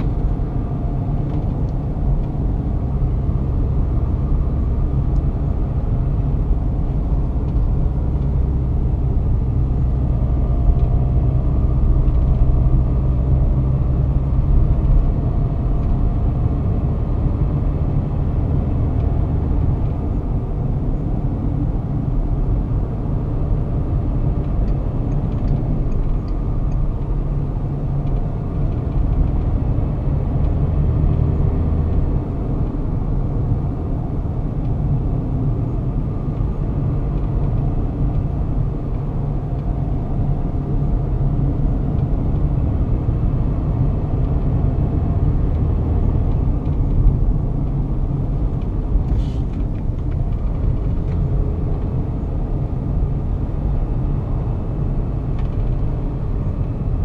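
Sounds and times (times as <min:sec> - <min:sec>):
tyre and road rumble: 0:00.0 - 0:57.0.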